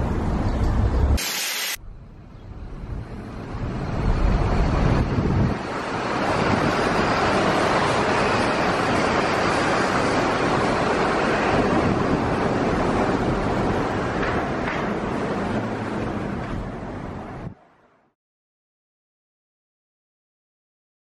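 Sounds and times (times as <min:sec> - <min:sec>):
road and wind noise from car: 0:00.0 - 0:01.2, 0:01.8 - 0:18.1.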